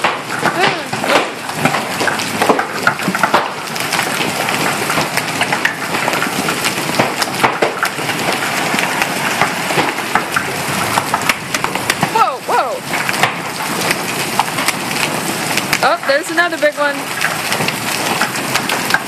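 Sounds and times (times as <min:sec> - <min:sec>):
hail clattering: 0:00.0 - 0:19.0
hailstones cracking on hard surfaces: 0:00.0 - 0:19.0.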